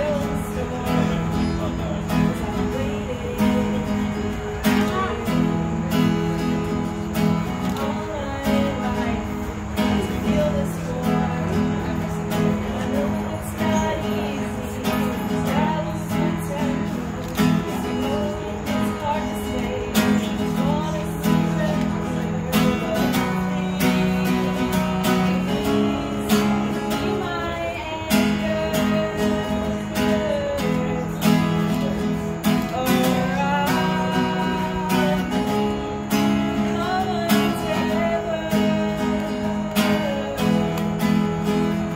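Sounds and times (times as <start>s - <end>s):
acoustic guitar strumming: 0.0s - 41.9s
woman singing: 0.0s - 41.9s.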